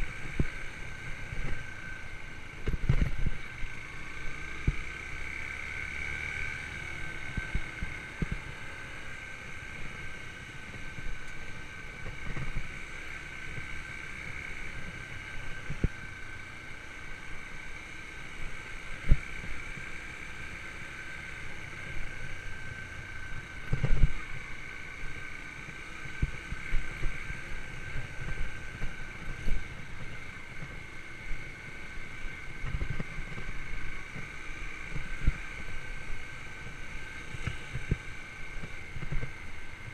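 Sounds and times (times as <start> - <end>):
motorcycle engine whine: 0.0 - 39.9.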